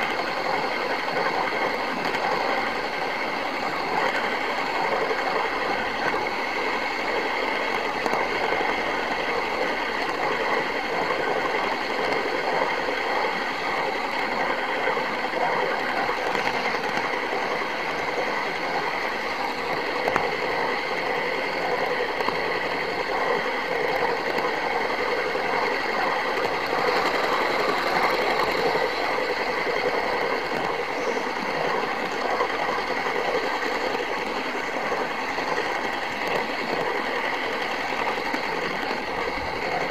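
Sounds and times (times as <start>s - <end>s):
model train whir and rattle: 0.0s - 39.9s.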